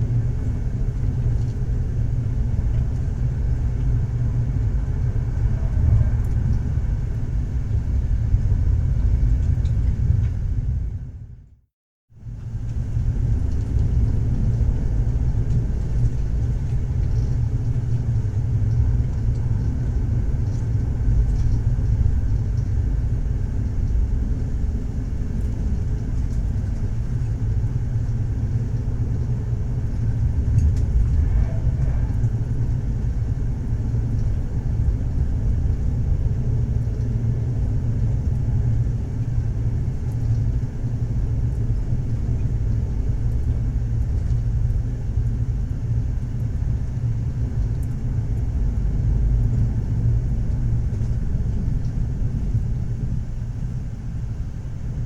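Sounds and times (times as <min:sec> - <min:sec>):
train rumbling on rails: 0:00.0 - 0:11.5, 0:12.2 - 0:55.0.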